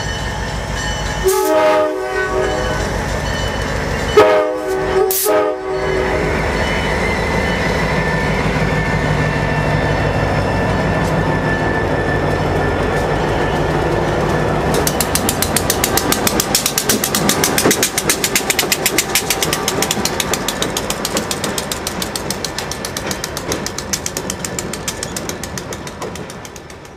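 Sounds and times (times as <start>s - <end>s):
crossing warning bell ringing: 0.0s - 25.9s
diesel locomotive running: 0.0s - 26.9s
train cars rolling past: 0.0s - 26.9s.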